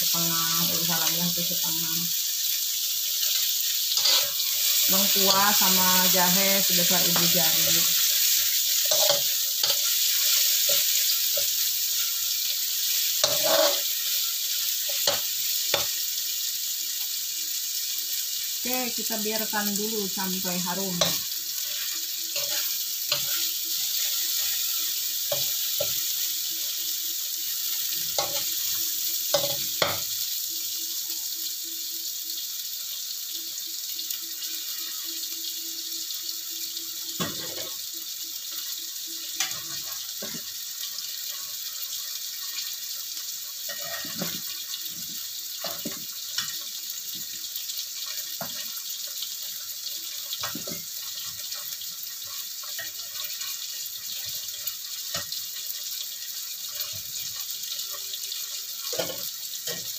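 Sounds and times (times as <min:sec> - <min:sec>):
spice paste sizzling in oil: 0:00.0 - 0:59.9.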